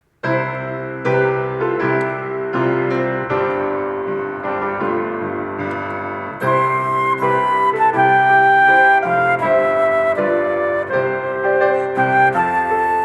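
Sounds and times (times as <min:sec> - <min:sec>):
solo piano chords: 0:00.0 - 0:13.0.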